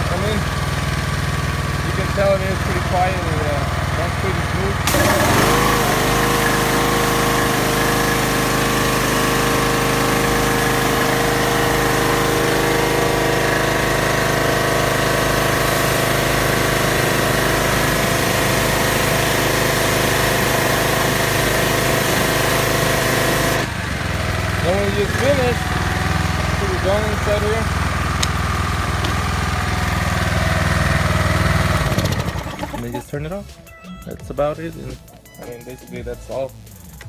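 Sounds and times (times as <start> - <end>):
water jet hissing: 0.0 - 33.0
pressure washer engine running: 0.0 - 33.4.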